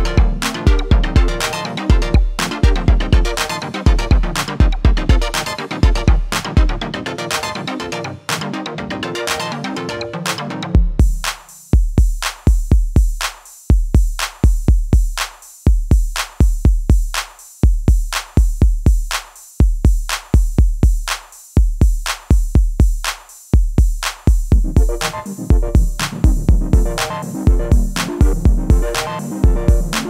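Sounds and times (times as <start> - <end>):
drum machine beat: 0.0 - 8.6, 9.2 - 9.7, 10.3 - 30.0.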